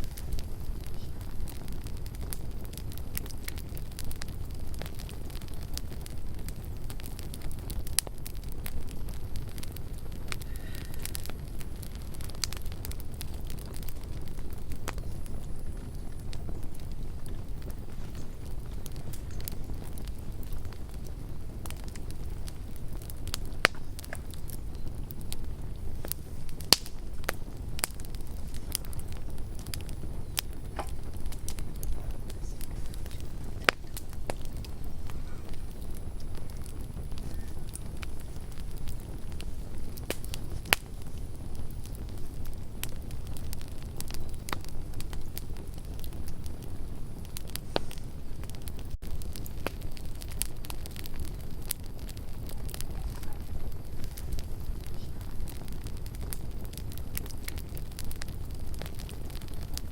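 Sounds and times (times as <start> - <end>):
campfire rumble: 0.0 - 59.9
fire pops and snaps: 0.0 - 59.9.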